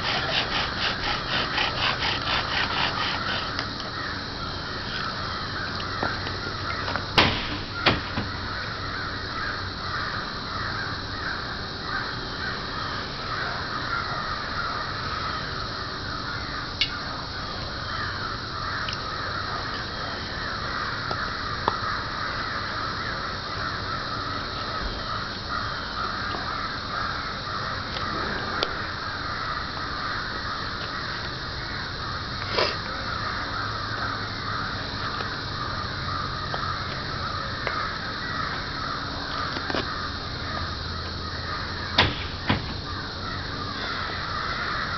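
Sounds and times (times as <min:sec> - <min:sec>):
birds calling and chattering: 0:00.0 - 0:44.9.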